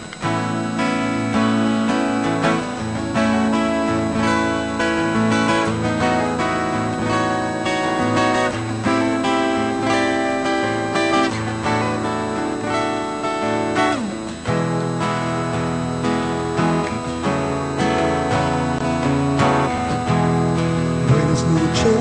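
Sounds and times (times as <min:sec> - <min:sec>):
acoustic guitar playing: 0:00.0 - 0:22.0
bass notes: 0:00.0 - 0:22.0.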